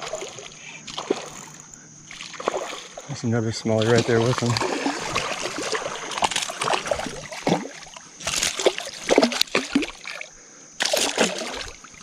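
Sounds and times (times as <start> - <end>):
fish thrashing in water: 0.0 - 3.1, 3.8 - 12.0.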